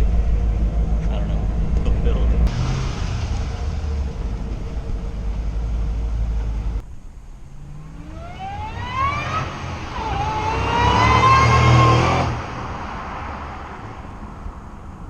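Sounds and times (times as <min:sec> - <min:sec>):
engine rumble: 0:00.0 - 0:15.0
supercharger whine: 0:00.0 - 0:15.0.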